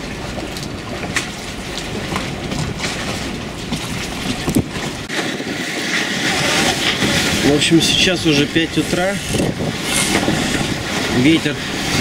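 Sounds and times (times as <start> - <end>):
water noise: 0.0 - 12.0
wind: 0.0 - 12.0
wind on microphone: 0.0 - 12.0.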